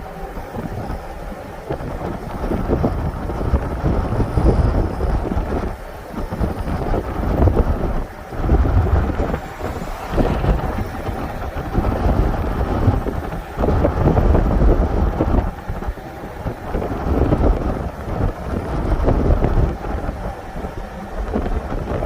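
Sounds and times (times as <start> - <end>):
car rumbling on the move: 0.0 - 22.0
wind buffeting microphone: 0.0 - 22.0.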